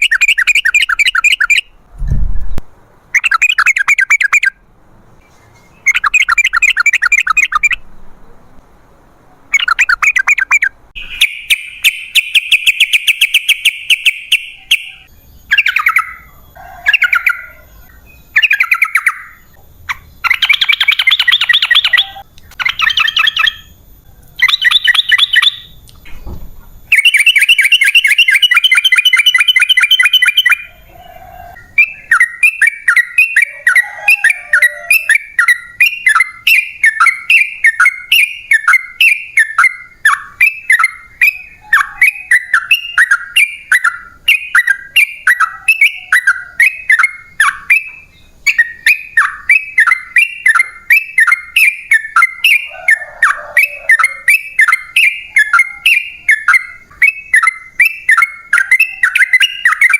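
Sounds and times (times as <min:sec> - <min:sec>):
bird calling in chattering trills: 0:00.0 - 0:01.8, 0:03.1 - 0:04.7, 0:05.5 - 0:08.4, 0:09.5 - 0:25.8, 0:26.8 - 0:59.9.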